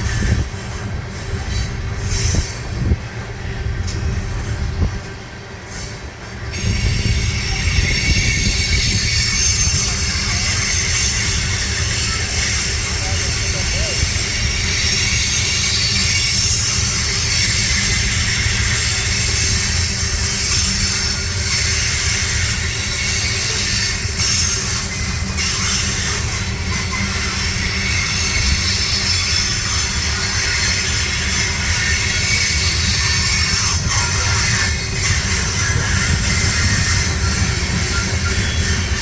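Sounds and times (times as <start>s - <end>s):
freight train rumbling: 0.0s - 39.0s
wheels clicking on rails: 0.0s - 39.0s.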